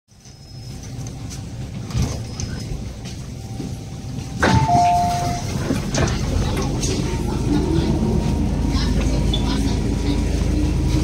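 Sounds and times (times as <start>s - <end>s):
train carriage rumble: 0.1s - 11.0s.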